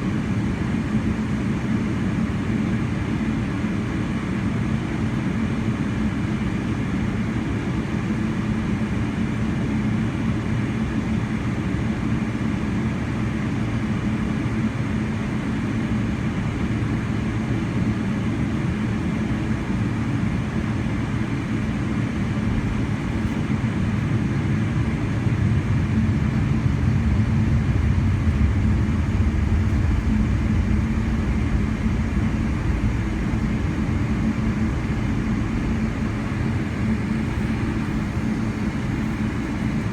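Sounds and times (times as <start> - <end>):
airplane cabin engine hum: 0.0 - 39.9.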